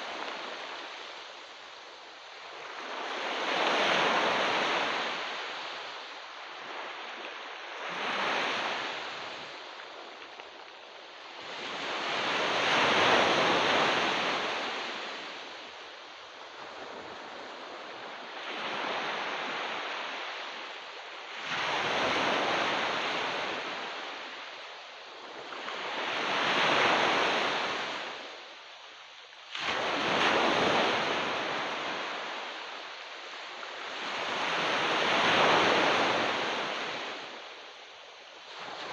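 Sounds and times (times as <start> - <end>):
waves breaking on beach: 0.0 - 38.9.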